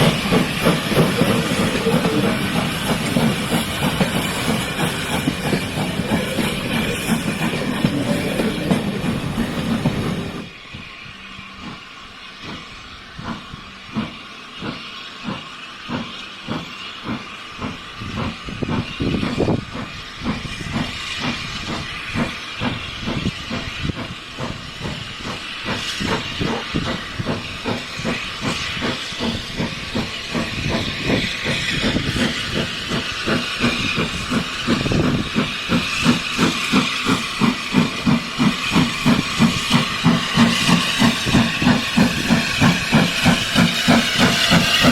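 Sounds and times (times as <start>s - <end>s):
steam hissing: 0.0s - 44.9s
steam locomotive exhaust beats: 0.0s - 44.9s.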